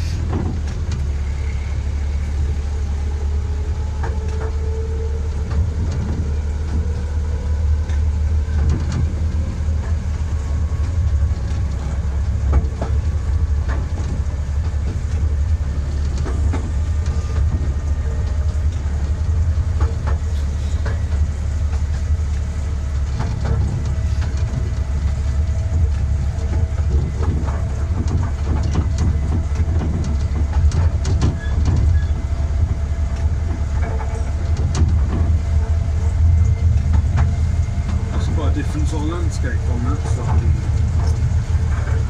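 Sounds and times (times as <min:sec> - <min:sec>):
miniature train rumbling: 0:00.0 - 0:42.0
wheels clicking over rail joints: 0:00.0 - 0:42.0.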